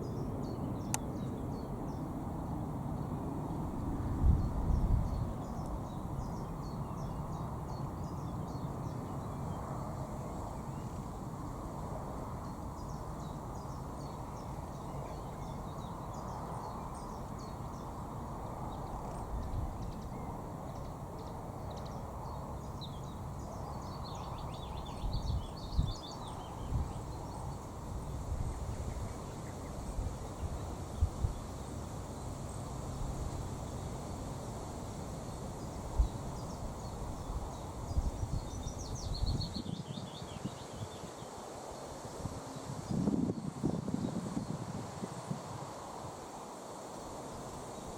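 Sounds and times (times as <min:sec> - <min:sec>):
small birds chirping: 0:00.0 - 0:34.5, 0:35.2 - 0:44.6.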